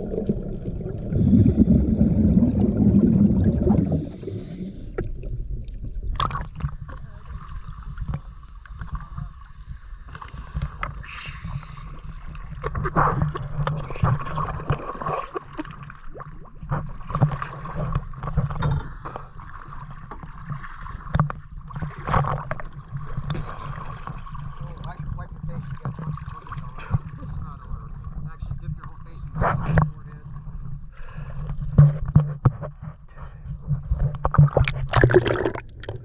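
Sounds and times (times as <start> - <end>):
water sloshing and splashing: 0.0 - 9.0, 10.1 - 30.7, 31.5 - 36.0.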